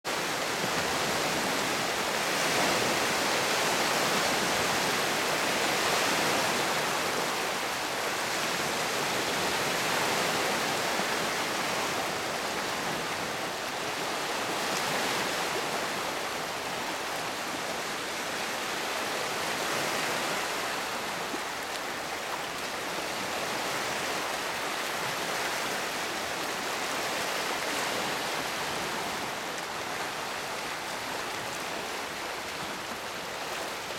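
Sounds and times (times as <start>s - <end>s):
lake waves washing over rocks: 0.1s - 33.9s.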